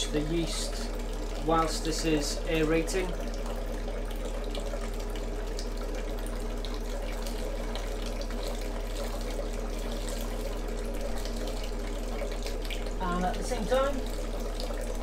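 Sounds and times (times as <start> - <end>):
liquid splashing into fermenter: 0.0 - 15.0.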